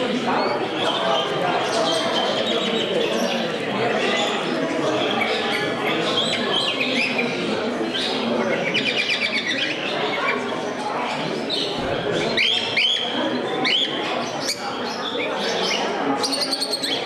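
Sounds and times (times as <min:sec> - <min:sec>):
murmur of people talking: 0:00.0 - 0:17.0
small birds chirping: 0:00.0 - 0:17.0.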